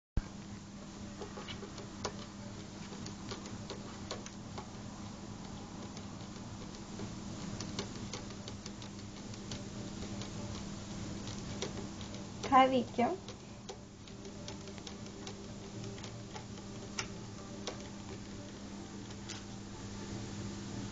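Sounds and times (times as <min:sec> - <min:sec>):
steady low hum: 0:00.2 - 0:20.9.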